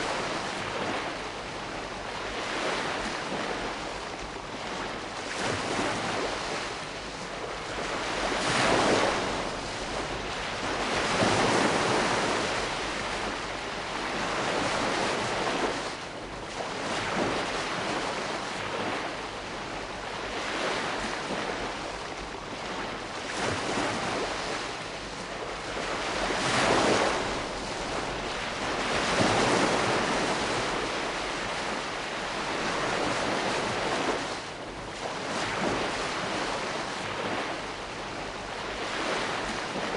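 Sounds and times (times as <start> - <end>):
gentle waves washing in: 0.0 - 39.9.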